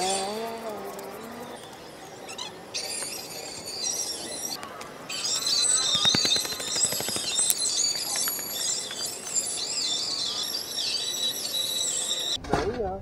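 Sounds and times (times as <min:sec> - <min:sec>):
birds chirping and singing: 0:00.0 - 0:12.4.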